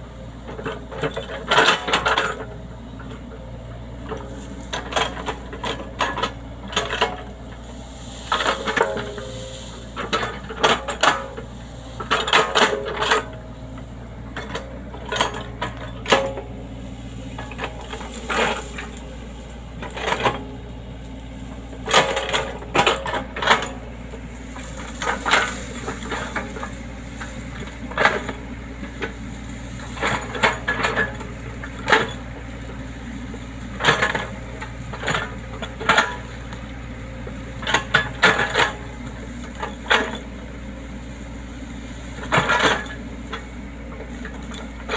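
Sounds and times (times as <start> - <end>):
excavator engine humming: 0.0 - 44.9
metallic clanks and rattles: 0.5 - 3.3, 4.0 - 7.5, 8.2 - 40.7, 41.9 - 44.9.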